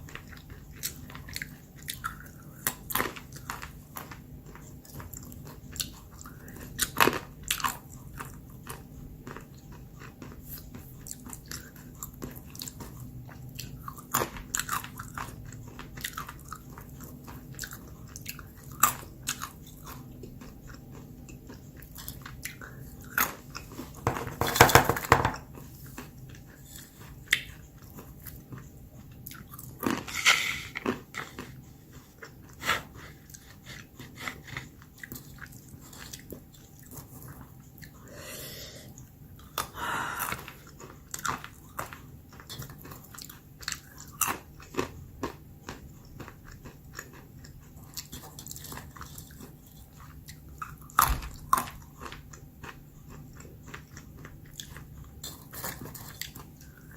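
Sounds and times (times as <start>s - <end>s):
chewing: 0.0s - 24.0s, 25.6s - 56.9s.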